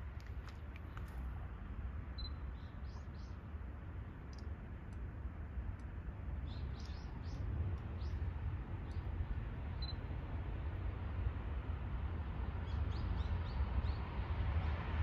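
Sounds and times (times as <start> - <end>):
low outdoor wind rumble: 0.0 - 15.0.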